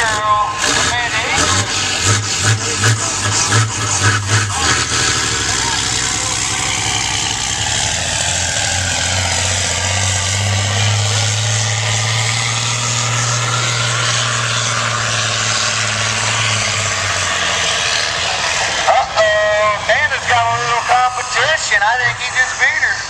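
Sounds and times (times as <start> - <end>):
truck diesel engine at full throttle: 0.0 - 23.0.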